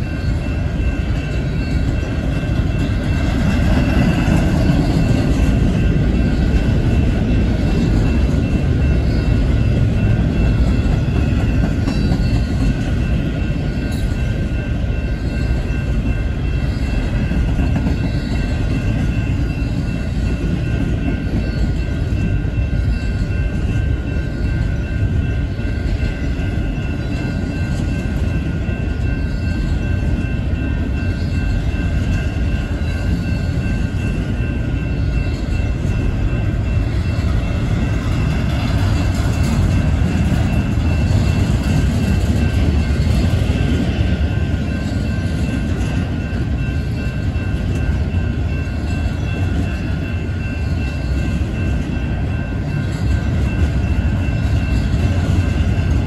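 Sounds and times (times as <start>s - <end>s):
steady high ringing: 0.0s - 56.0s
train wheels rumbling on rails: 0.0s - 56.0s.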